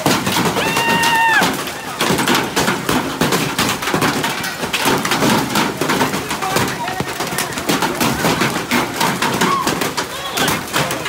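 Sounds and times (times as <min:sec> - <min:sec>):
hailstones pelting a patio: 0:00.0 - 0:11.0.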